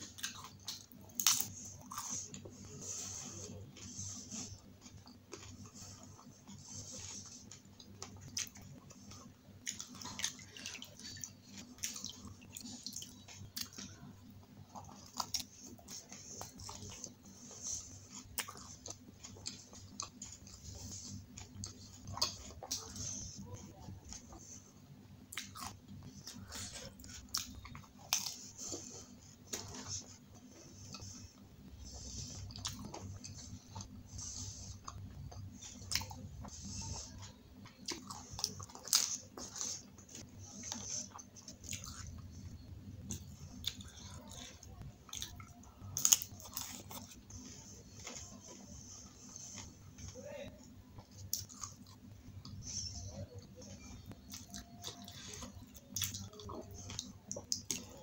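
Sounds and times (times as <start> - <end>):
crunchy chewing: 0.0 - 58.0
steady low hum: 0.0 - 58.0.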